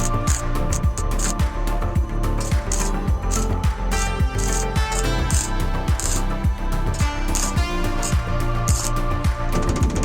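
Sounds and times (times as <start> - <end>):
background music with beat: 0.0 - 10.0
kick drum: 0.3 - 10.0.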